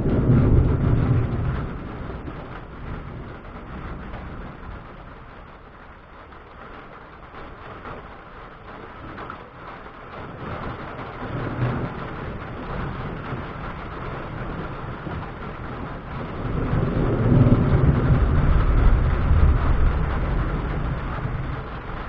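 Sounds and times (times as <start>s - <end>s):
rolling thunder: 0.0s - 22.0s.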